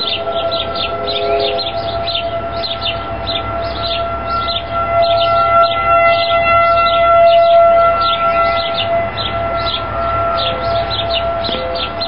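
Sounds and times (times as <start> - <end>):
two-tone warning siren wail: 0.0 - 12.0.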